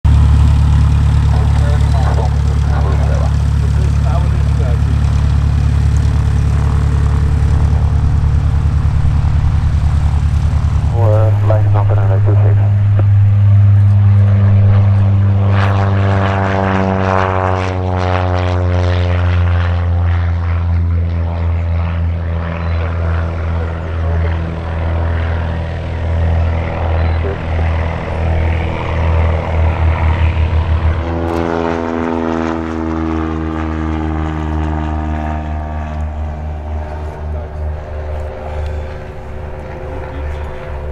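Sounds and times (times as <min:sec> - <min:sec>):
propeller plane engine: 0:00.0 - 0:40.9.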